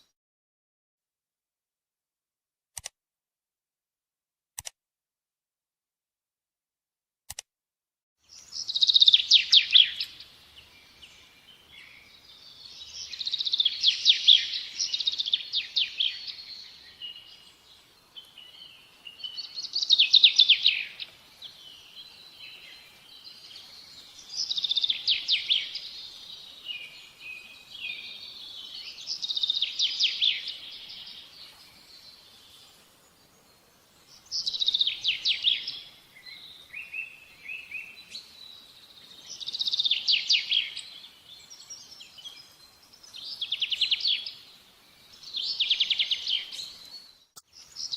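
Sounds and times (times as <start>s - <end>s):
bird chirping song: 8.2s - 47.9s.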